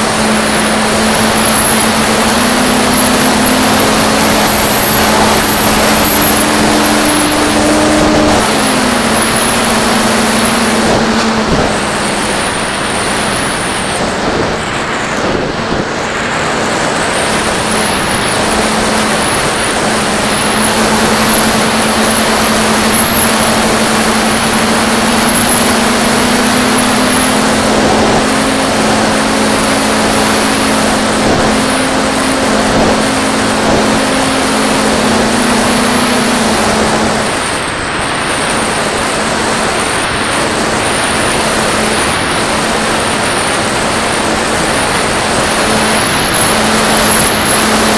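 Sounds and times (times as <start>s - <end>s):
electric motor and propeller: 0.0s - 47.9s
wind rushing over microphone: 0.0s - 47.9s.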